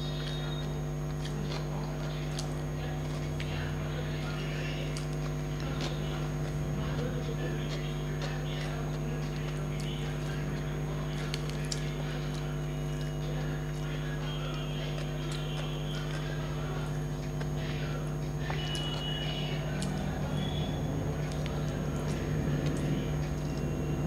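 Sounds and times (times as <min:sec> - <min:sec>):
chewing mouth smacks: 0:00.0 - 0:24.0
fingers mixing food on a plate: 0:00.0 - 0:24.0
steady low hum: 0:00.0 - 0:24.0.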